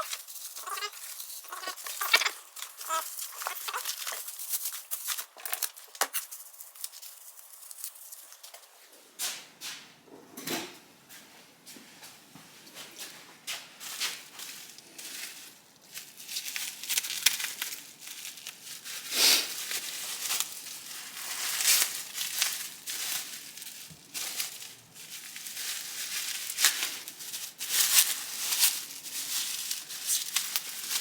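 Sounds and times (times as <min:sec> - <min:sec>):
packing material crinkling: 0:00.0 - 0:08.7, 0:13.8 - 0:31.0
scrapes and crackles: 0:00.0 - 0:08.9, 0:13.8 - 0:31.0.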